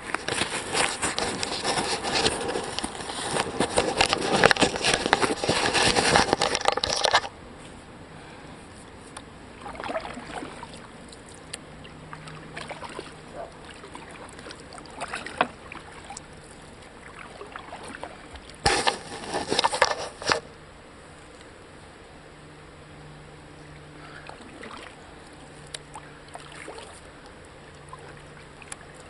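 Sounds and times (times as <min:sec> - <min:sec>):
paddle splashing water: 0:00.0 - 0:07.3, 0:09.5 - 0:20.5, 0:23.7 - 0:29.0.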